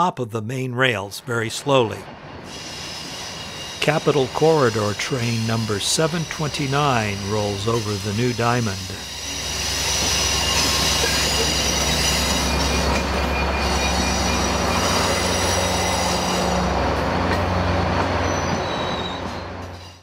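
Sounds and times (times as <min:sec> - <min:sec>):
rail noise: 0:00.8 - 0:20.0
locomotive engine drone: 0:01.1 - 0:20.0
train wheel squeal: 0:02.4 - 0:20.0.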